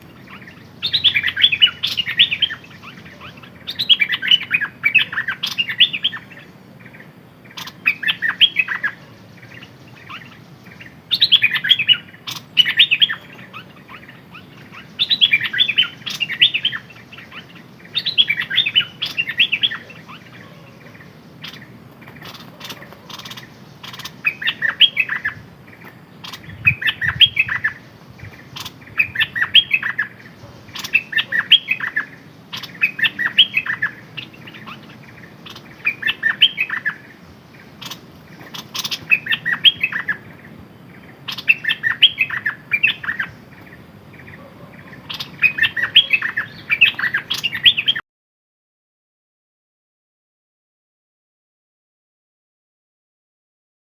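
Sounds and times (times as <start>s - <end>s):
songbird singing: 0.0s - 48.0s.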